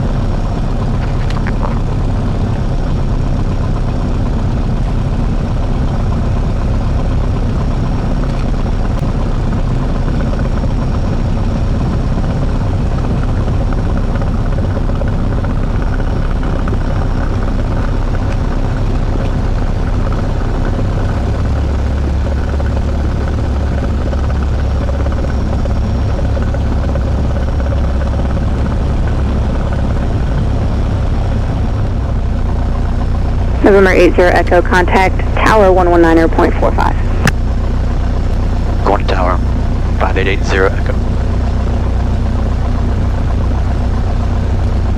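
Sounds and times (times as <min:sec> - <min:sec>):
deep low hum: 0:00.0 - 0:44.9
small plane engine and propeller: 0:00.0 - 0:44.9.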